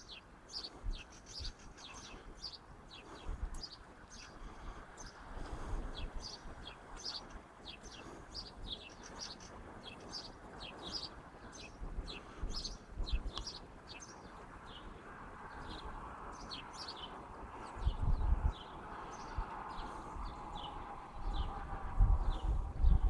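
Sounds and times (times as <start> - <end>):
small birds chirping: 0.0 - 23.0
wind rumbling on microphone: 0.0 - 23.0.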